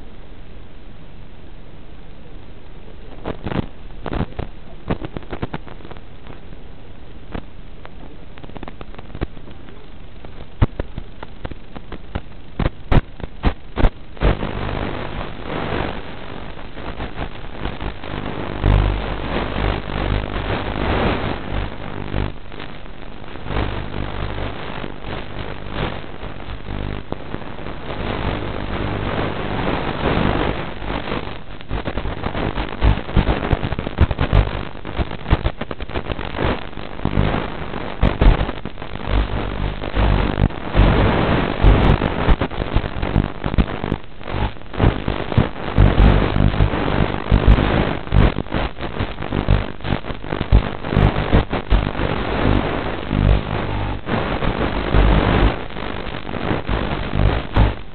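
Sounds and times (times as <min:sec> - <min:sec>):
static hiss and crackling: 0:00.0 - 0:57.9
sharp clicks and pops: 0:03.2 - 0:06.6, 0:07.3 - 0:57.9.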